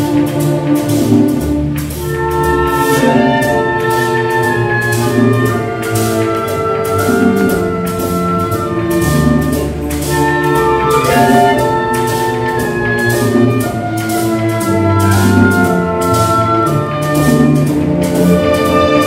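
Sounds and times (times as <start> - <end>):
steady percussion beat: 0.0 - 19.0
strings and winds holding notes: 0.0 - 19.0.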